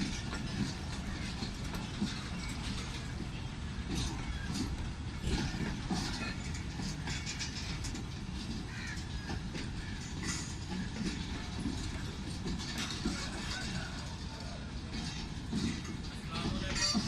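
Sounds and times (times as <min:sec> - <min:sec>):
train coaches rumbling on track: 0:00.0 - 0:17.0
wheels clicking and squeaking: 0:00.0 - 0:17.0.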